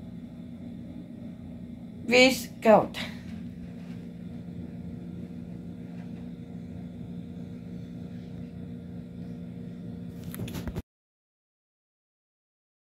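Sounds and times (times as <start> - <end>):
low mechanical hum: 0.0 - 10.8.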